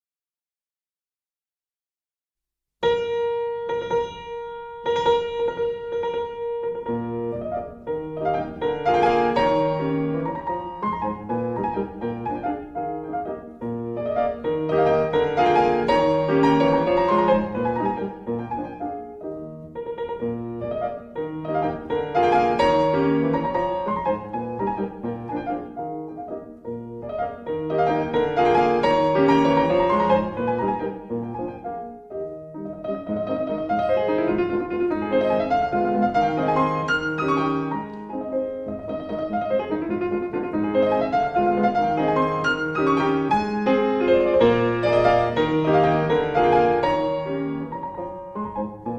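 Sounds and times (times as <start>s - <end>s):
piano music: 2.8s - 48.9s.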